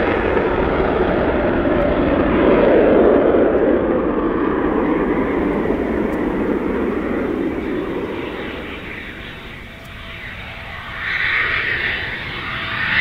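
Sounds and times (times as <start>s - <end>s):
jet fighter flying: 0.0s - 13.0s.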